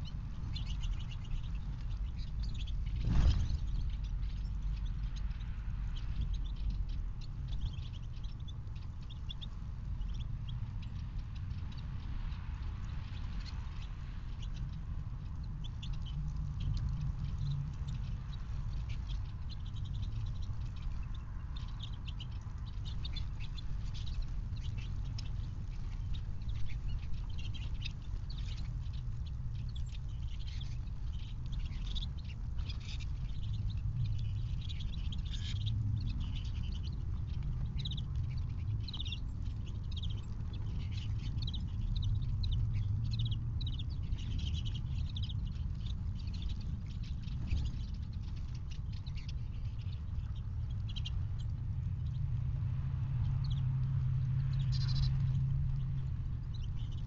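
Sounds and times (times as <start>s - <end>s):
songbirds chirping: 0.0s - 57.0s
steady low rumble: 0.0s - 57.0s.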